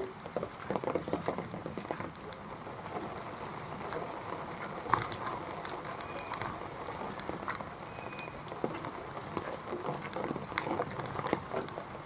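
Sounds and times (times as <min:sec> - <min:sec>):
footsteps on wet pavement: 0:00.0 - 0:12.0
rain patter: 0:00.0 - 0:12.0.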